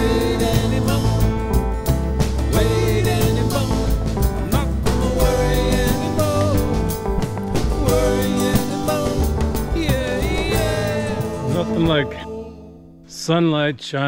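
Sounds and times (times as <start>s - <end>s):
band with drums: 0.0s - 12.1s
country song with singing: 0.0s - 13.7s.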